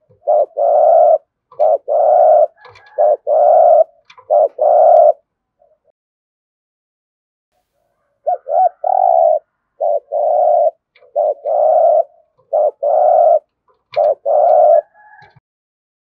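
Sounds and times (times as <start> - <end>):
dove cooing: 0.0 - 5.9, 7.8 - 15.4.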